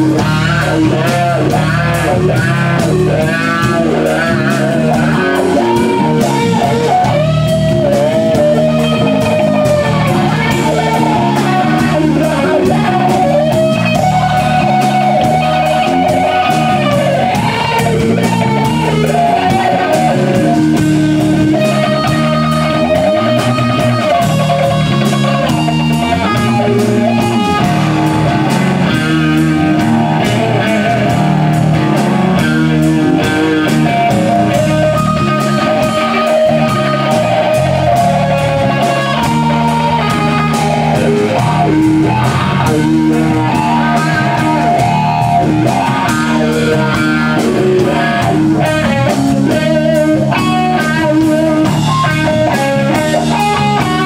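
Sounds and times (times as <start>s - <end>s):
drums: 0.0s - 54.0s
electric guitar solo: 0.0s - 54.0s.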